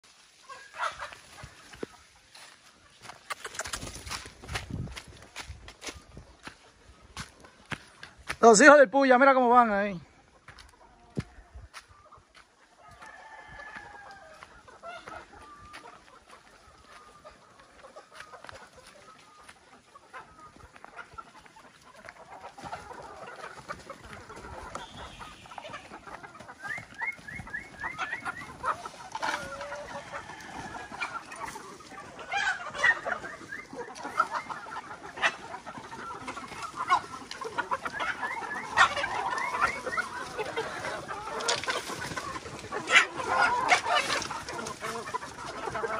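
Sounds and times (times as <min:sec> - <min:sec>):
chickens clucking and calling: 0:00.0 - 0:45.9.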